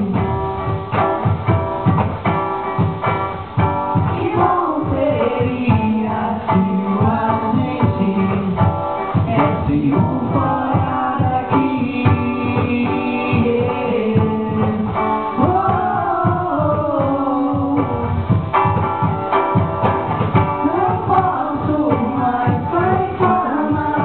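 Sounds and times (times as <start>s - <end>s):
person singing: 0.0s - 1.0s, 3.7s - 18.8s, 20.4s - 24.0s
hand drum beat: 0.0s - 24.0s
strummed acoustic guitar: 0.0s - 24.0s.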